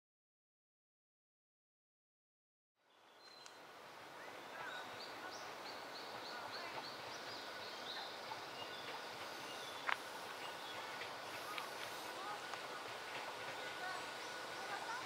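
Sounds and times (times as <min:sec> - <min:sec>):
faint steady hiss: 0:02.8 - 0:15.0
songbirds calling: 0:02.8 - 0:15.0.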